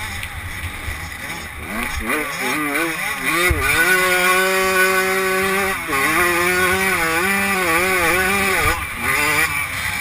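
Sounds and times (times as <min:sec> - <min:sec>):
motorbike engine revving hard: 0:00.8 - 0:10.0.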